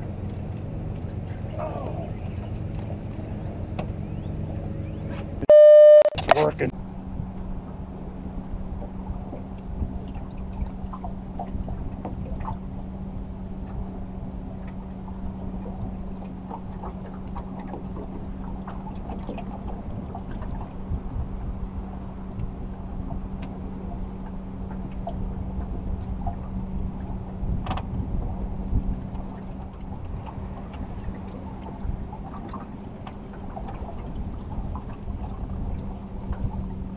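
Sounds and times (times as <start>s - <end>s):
boat hum: 0.0s - 36.9s
water rumble: 0.0s - 36.9s
wind on microphone: 6.8s - 36.9s.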